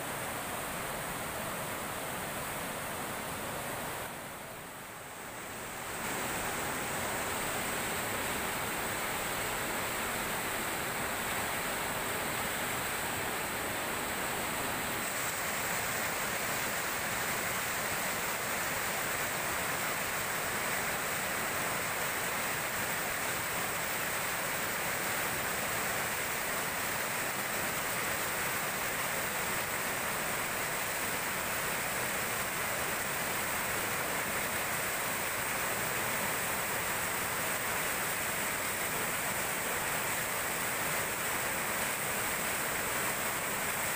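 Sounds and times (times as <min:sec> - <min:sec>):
river water rushing over dam: 0:00.0 - 0:43.9.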